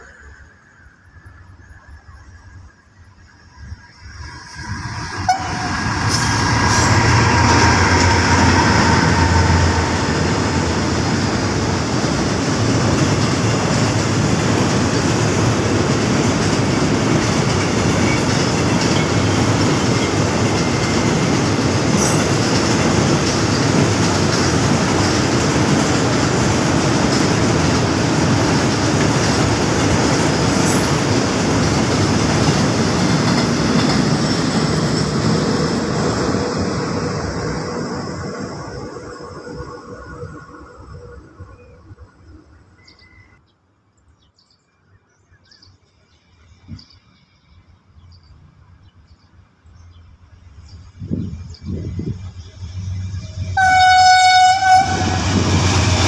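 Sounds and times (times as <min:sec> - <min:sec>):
diesel locomotive engine rumble: 0:00.0 - 0:43.4, 0:46.5 - 0:56.0
train wagons rolling on rails: 0:00.0 - 0:43.5, 0:45.5 - 0:56.0.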